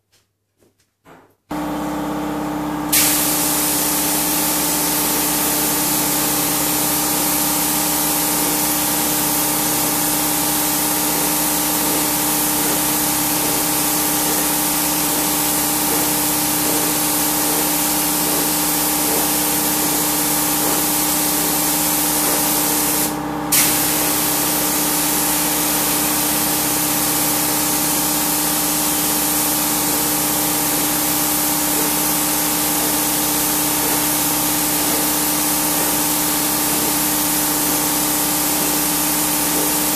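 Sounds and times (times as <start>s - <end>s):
steady machine hum: 1.5s - 39.9s
spray gun hissing: 2.9s - 39.9s.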